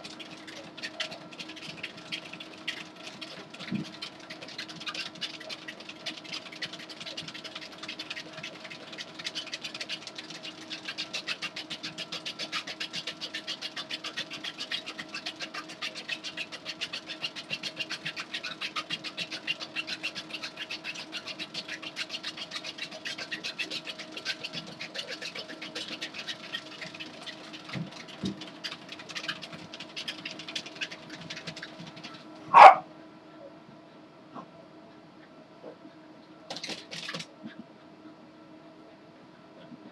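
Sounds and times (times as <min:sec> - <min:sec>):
dog paws pattering on treadmill: 0:00.0 - 0:32.9, 0:35.2 - 0:37.7
treadmill motor hum: 0:00.0 - 0:39.9.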